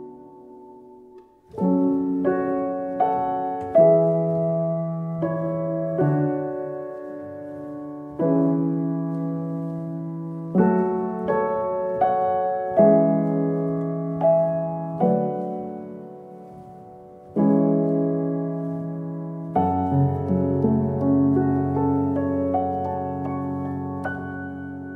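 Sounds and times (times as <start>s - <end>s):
slow solo piano: 0.0s - 24.9s.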